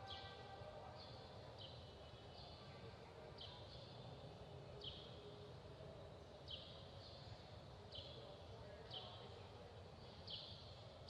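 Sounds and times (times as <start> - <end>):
low background murmur: 0.0 - 11.0.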